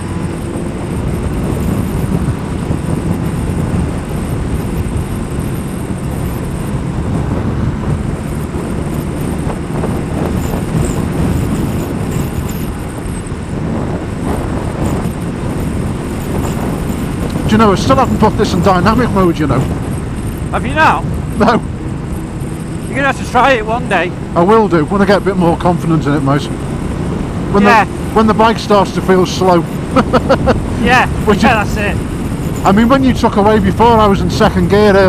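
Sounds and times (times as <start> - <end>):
motorcycle engine drone: 0.0 - 35.0
wind rush over microphone: 0.0 - 35.0.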